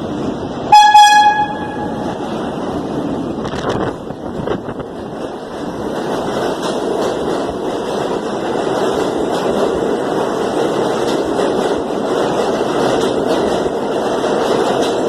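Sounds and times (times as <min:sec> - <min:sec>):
subway train wheels rumbling on rail: 0:00.0 - 0:15.0.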